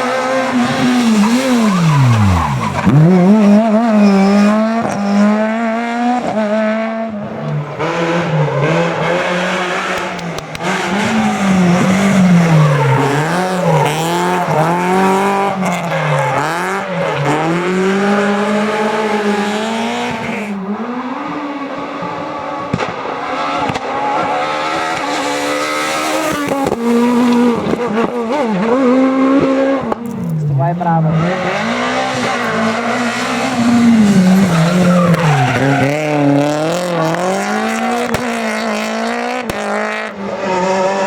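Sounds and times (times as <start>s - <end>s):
rally car engines revving: 0.0s - 41.0s.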